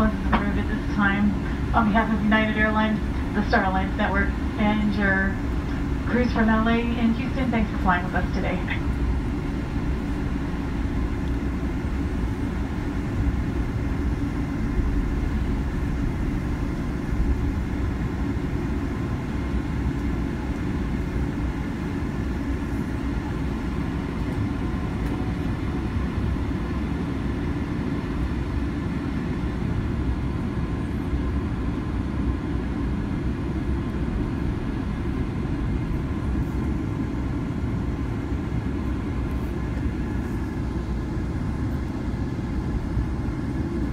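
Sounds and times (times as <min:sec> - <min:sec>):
faint steady whine: 0:00.0 - 0:43.9
jet engines idling rumble: 0:00.0 - 0:43.9.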